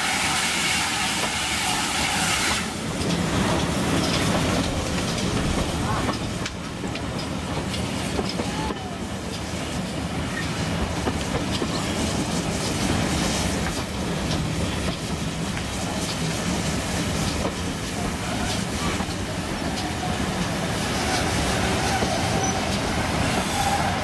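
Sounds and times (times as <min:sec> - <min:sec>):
train carriage rumble: 0:00.0 - 0:24.0
wheels clicking over rail joints: 0:02.9 - 0:12.0, 0:13.6 - 0:24.0.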